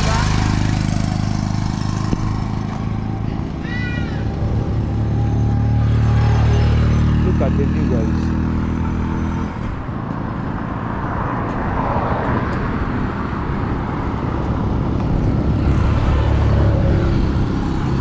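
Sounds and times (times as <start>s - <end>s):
low engine hum: 0.0s - 18.0s
road traffic rushing: 0.0s - 18.0s.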